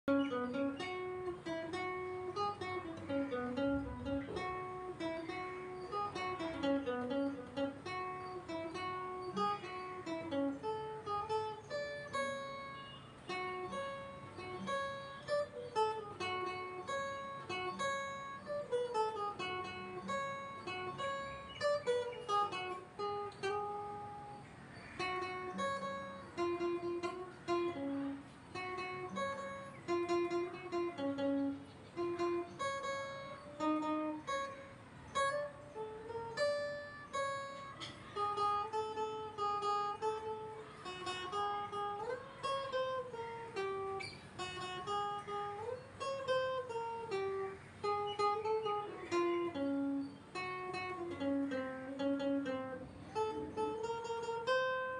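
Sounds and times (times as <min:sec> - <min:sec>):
fingerpicked acoustic guitar melody: 0:00.0 - 0:54.9.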